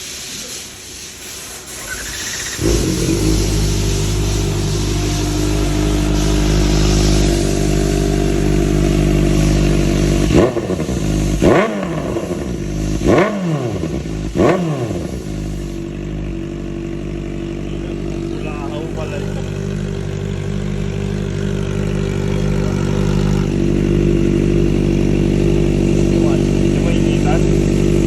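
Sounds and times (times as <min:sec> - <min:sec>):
motorcycle engine idling and revving: 0:01.2 - 0:28.0.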